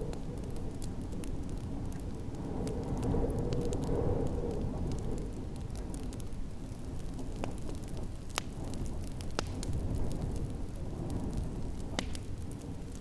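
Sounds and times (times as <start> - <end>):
fire pops: 0.0 - 13.0
snowstorm wind rumble: 0.0 - 13.0
wood fire crackling: 0.0 - 13.0.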